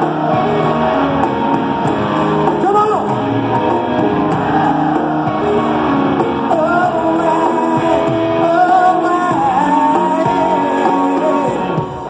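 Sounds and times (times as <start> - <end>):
live rock band with singing: 0.0 - 12.0.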